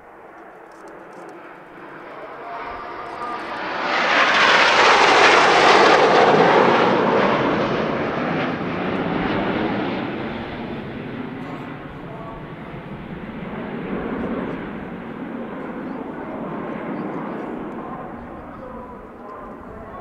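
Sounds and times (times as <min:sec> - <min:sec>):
jets roaring overhead: 0:00.0 - 0:20.0.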